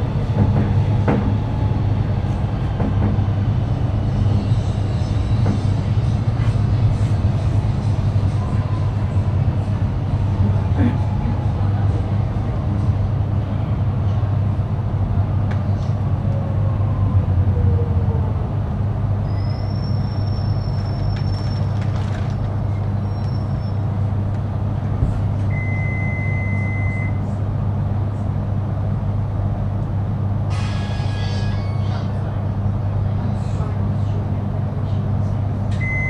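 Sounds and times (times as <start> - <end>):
train machinery hum: 0.0 - 36.0.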